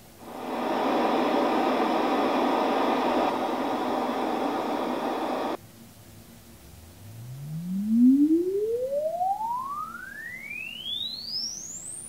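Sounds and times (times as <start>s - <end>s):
speaker playing hiss of test noise: 0.0s - 12.0s.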